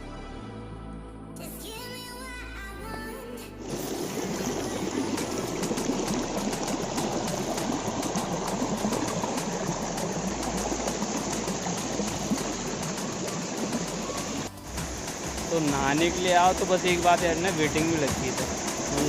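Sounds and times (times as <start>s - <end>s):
music: 0.0s - 19.0s
waterfall rushing: 3.6s - 19.0s.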